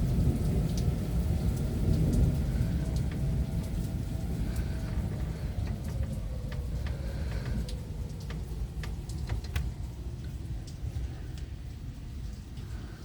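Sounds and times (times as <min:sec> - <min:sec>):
heavy rain: 0:00.0 - 0:13.0
low rumble of thunder: 0:00.0 - 0:13.0
raindrops tapping on hard surface: 0:00.0 - 0:13.0.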